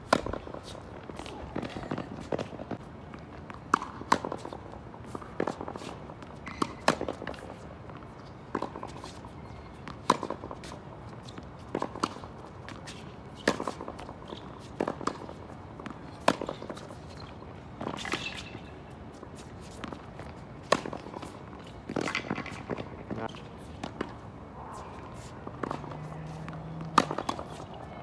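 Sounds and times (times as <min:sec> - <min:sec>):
tennis ball hitting racket and wall: 0:00.1 - 0:02.8, 0:03.5 - 0:27.9.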